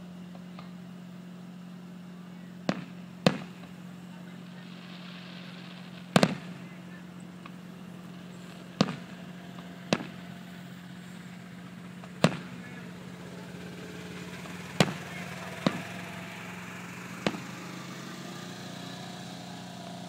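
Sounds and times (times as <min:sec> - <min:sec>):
steady low hum: 0:00.0 - 0:20.0
fireworks bangs: 0:00.3 - 0:20.0.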